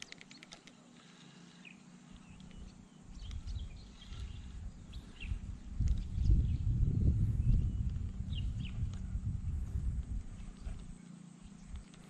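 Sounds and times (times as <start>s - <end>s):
birds chirping: 0.0s - 12.0s
wind rumble on microphone: 2.3s - 12.0s.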